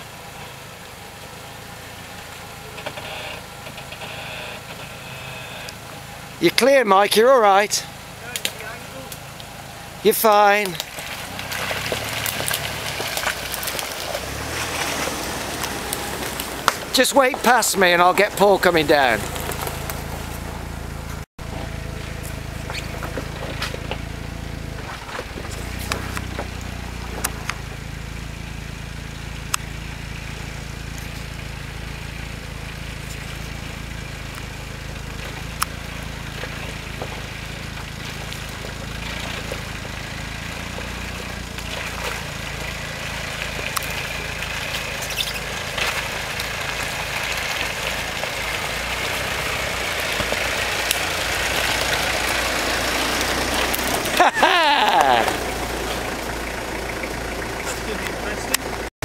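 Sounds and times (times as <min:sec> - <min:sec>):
engine running at low revs: 0:00.0 - 0:58.9.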